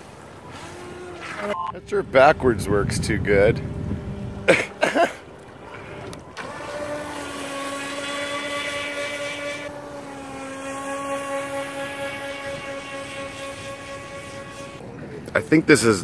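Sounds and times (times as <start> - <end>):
electric motor whining: 0.3 - 14.9.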